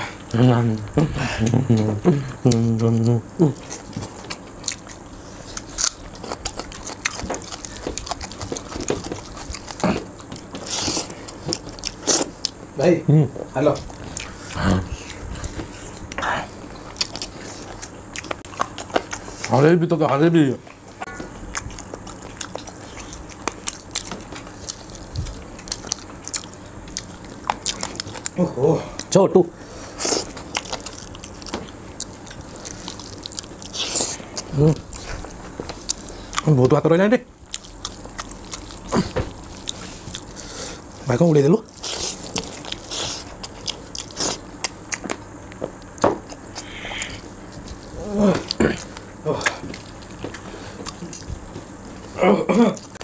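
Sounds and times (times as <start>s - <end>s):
chewing and biting mouth sounds: 0.0s - 12.8s, 13.4s - 53.0s.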